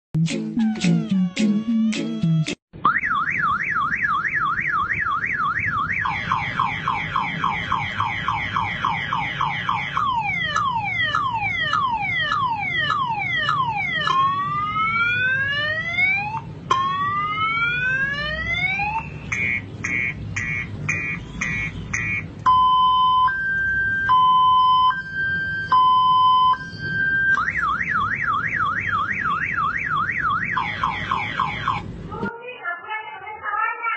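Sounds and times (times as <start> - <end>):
motorcycle alarm siren: 1.2 - 31.9.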